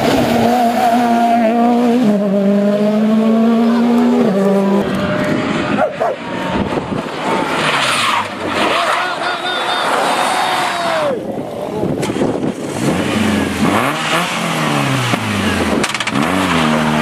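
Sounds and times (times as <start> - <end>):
rally car engines at high revs: 0.0 - 17.0.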